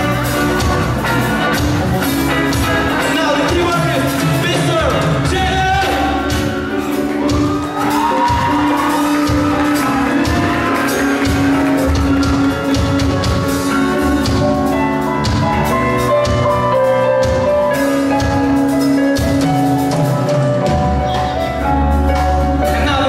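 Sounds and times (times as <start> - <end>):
bass: 0.0 - 23.0
drum kit: 0.0 - 23.0
electric guitars: 0.0 - 23.0
keyboard: 0.0 - 23.0.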